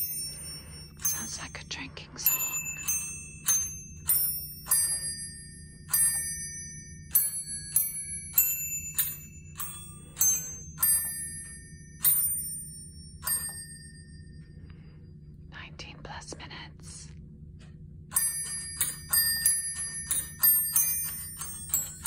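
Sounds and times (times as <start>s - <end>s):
glockenspiel playing a slow tune: 0.0s - 15.3s, 18.1s - 22.0s.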